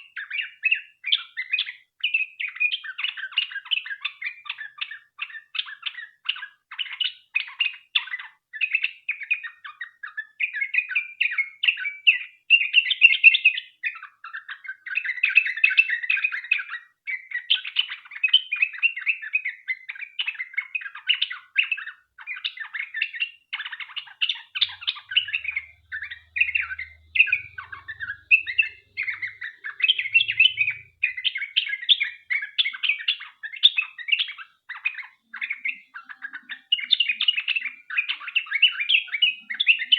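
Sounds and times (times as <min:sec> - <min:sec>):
bird singing rapid notes: 0:00.0 - 0:39.9.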